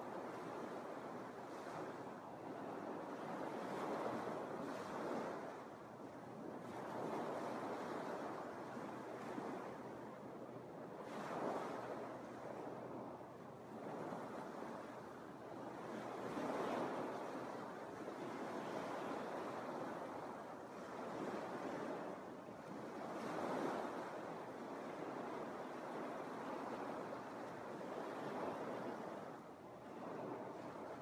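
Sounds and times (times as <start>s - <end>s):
waves washing onto beach: 0.0s - 31.0s.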